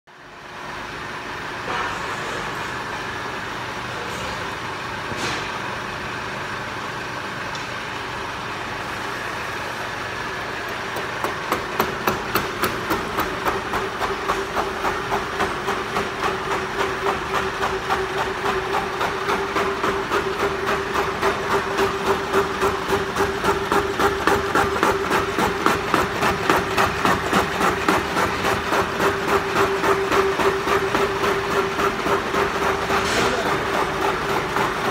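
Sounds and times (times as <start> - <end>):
boring machine humming: 0.2 - 34.9.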